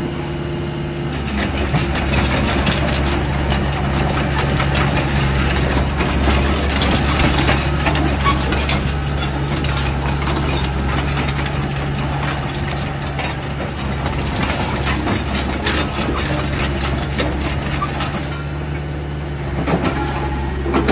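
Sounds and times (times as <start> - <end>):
excavator diesel engine running: 0.0 - 20.9
sharp clicks and rattles: 1.3 - 18.4.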